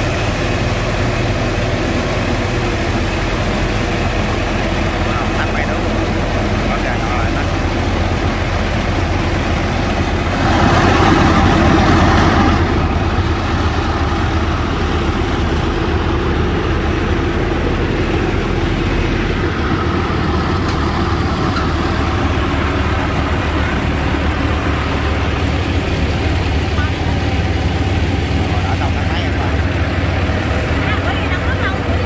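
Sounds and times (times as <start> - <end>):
heavy engine running: 0.0 - 32.0.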